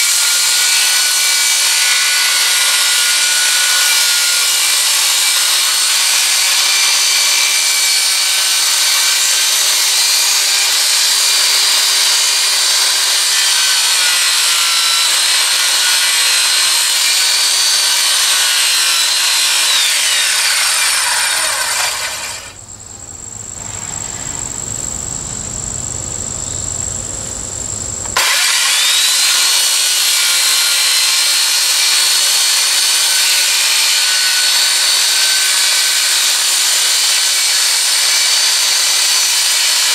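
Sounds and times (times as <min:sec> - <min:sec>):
circular saw cutting wood: 0:00.0 - 0:22.6, 0:28.0 - 0:39.9.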